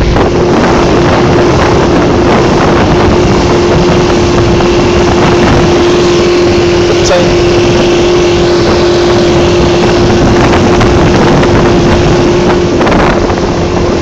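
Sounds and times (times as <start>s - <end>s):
hull spray: 0.0s - 14.0s
outboard motor at high revs: 0.0s - 14.0s
wind rush on microphone: 0.0s - 14.0s.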